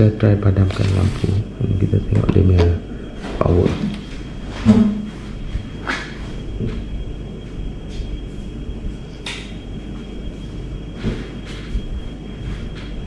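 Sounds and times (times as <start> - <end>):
low room noise rumble: 0.0 - 13.0.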